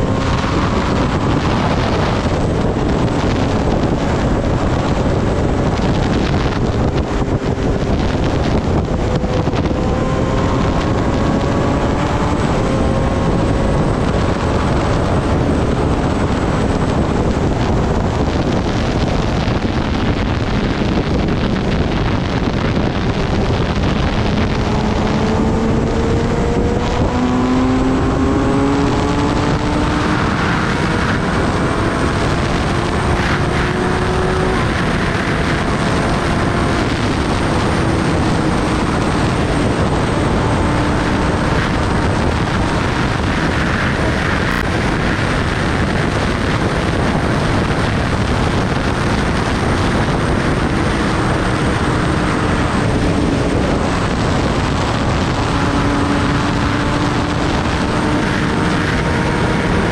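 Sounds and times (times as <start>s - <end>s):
motorcycle engine rising in pitch: 0.0s - 59.9s
wind rush on microphone: 0.0s - 59.9s.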